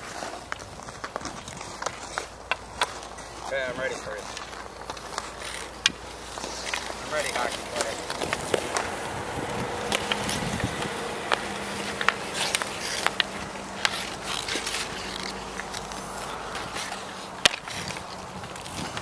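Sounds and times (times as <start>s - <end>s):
hockey stick clicks on ice: 0.0s - 8.9s, 9.8s - 19.0s
stick cracking on ice: 0.0s - 19.0s.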